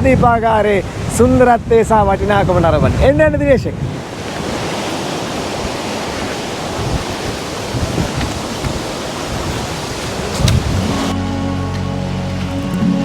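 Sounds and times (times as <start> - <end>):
wind buffeting microphone: 0.0 - 11.2
sea surf rushing: 0.0 - 13.0.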